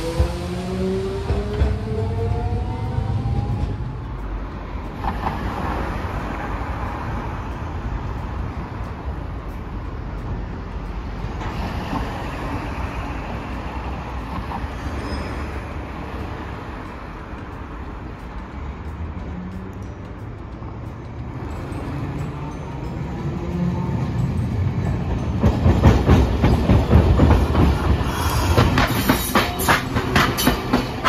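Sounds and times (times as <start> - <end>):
minibus passing: 0.0 - 31.0
street traffic noise: 0.0 - 31.0.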